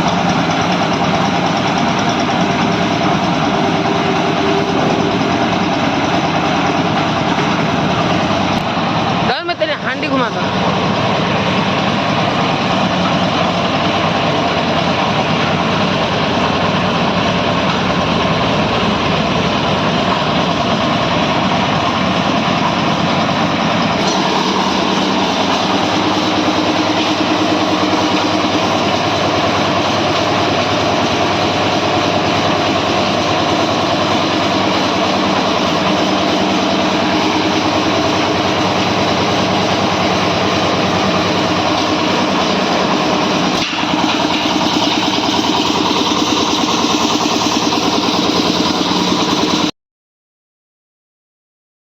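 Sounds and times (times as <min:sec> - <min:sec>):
concrete mixer engine running: 0:00.0 - 0:49.7
mixer drum turning: 0:00.0 - 0:49.7
steady hum: 0:00.0 - 0:49.7.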